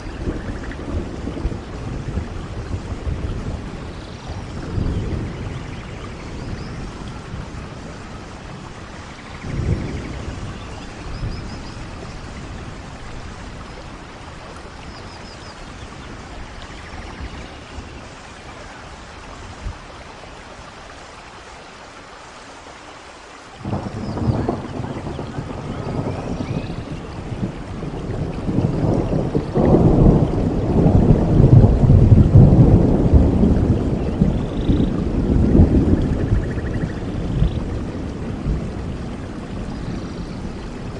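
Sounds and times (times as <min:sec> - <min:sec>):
low rumble of thunder: 0:00.0 - 0:20.8, 0:23.6 - 0:40.9
steady rainfall: 0:00.0 - 0:40.9.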